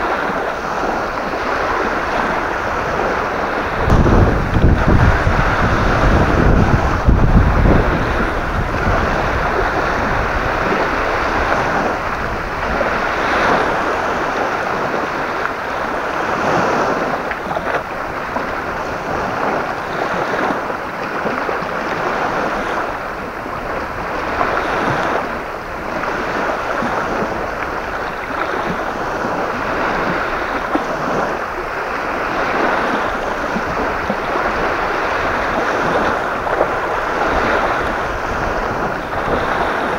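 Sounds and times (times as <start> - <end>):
gusty wind on microphone: 0.0 - 39.9.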